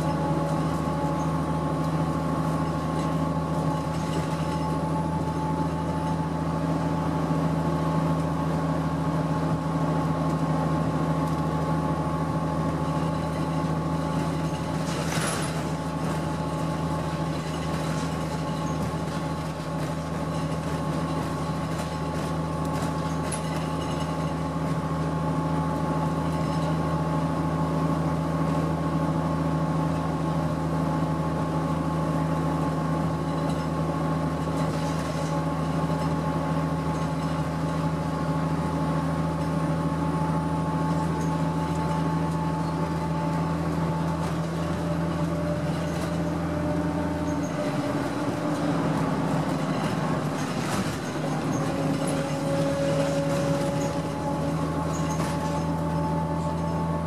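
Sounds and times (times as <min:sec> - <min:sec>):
bus engine drone: 0:00.0 - 0:57.0
road noise: 0:00.0 - 0:57.0.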